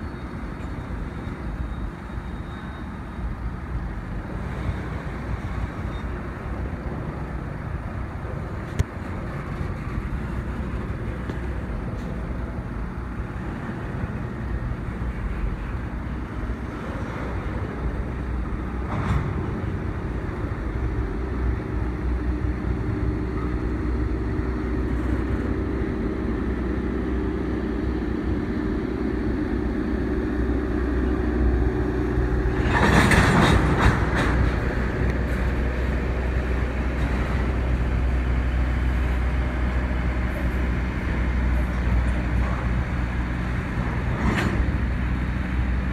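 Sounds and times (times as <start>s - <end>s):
train engine drone: 0.0s - 45.9s.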